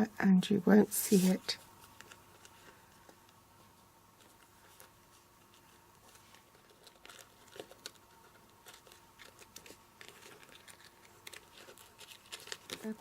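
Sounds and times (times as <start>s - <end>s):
paper crinkling: 1.1s - 3.4s, 4.1s - 13.0s.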